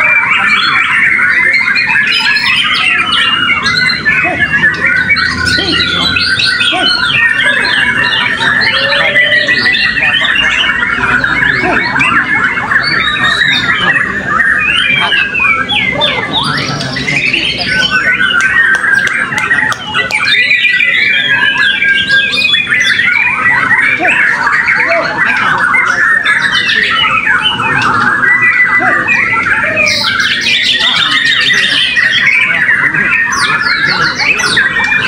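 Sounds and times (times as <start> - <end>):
many birds singing: 0.0 - 35.0.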